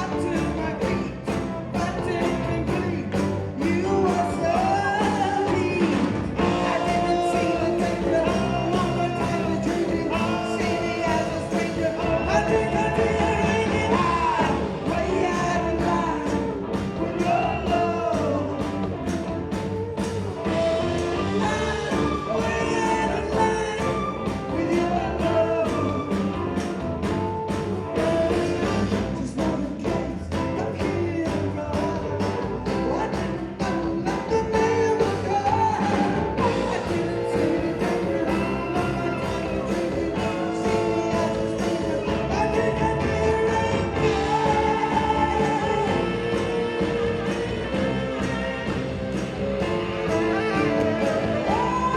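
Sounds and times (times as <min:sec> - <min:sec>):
drums steady beat: 0:00.0 - 0:51.9
lead singer singing: 0:00.0 - 0:51.9
rock band playing: 0:00.0 - 0:51.9.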